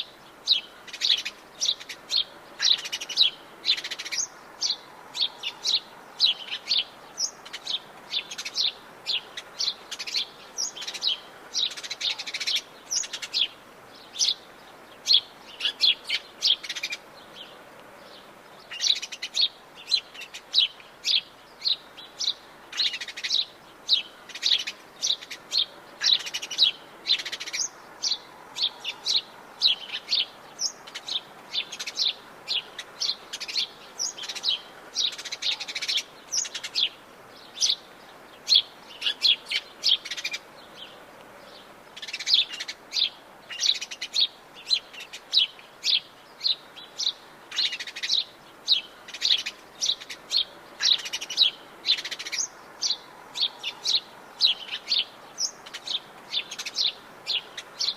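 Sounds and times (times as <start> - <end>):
birds chirping: 0.0 - 57.9
faint background hiss: 0.0 - 57.9.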